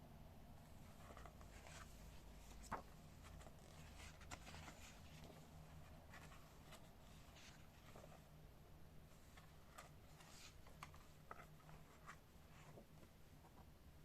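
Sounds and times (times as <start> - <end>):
faint low hum: 0.0 - 14.0
light clicks of book handling: 0.8 - 8.3, 9.0 - 13.8
book pages rustling: 0.8 - 8.4, 9.0 - 13.7.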